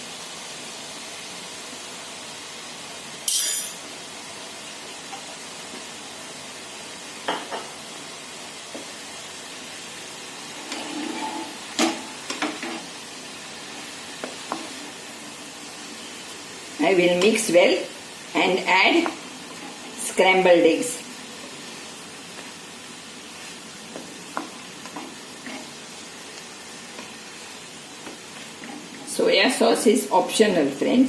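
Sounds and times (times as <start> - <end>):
rice sizzling in a pan: 0.0 - 31.0.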